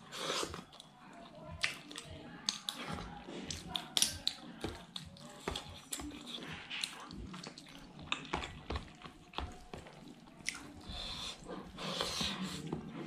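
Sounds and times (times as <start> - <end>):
wet chewing and mouth smacking: 0.3 - 12.9.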